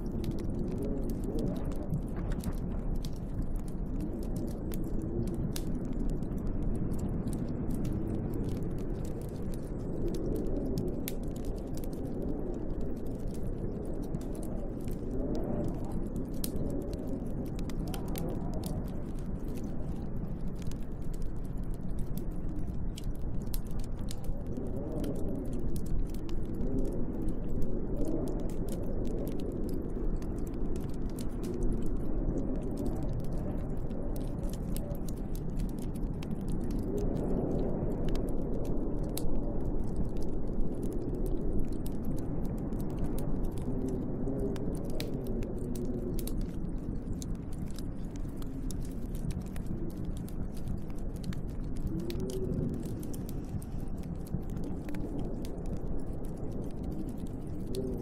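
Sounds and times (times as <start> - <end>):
gusting storm wind: 0.0 - 58.0
wood fire crackling and popping: 0.0 - 58.0.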